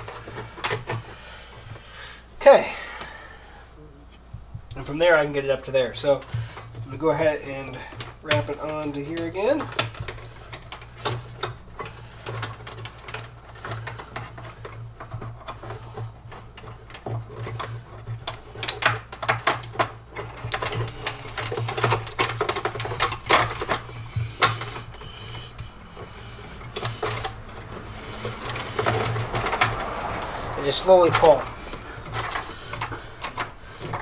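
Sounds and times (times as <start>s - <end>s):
wiring clicks taps and rustling: 0.0s - 2.0s, 4.1s - 34.0s
steady low hum: 0.0s - 34.0s.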